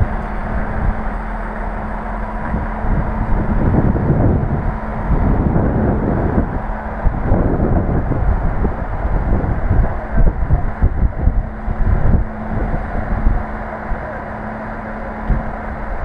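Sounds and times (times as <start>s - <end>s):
diesel railcar rumbling on rails: 0.0s - 16.0s.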